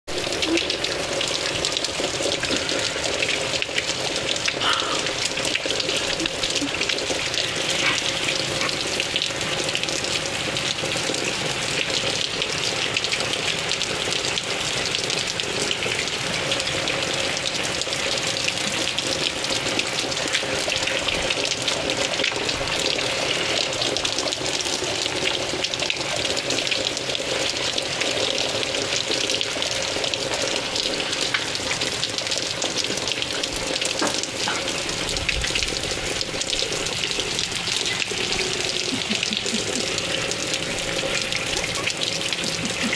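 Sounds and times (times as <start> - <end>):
rain and snow falling: 0.1 - 42.9.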